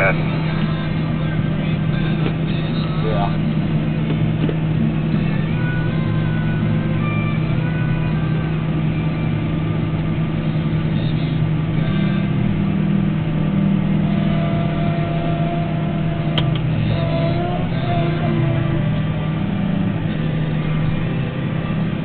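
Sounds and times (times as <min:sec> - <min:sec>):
farm machinery engine droning: 0:00.0 - 0:22.0.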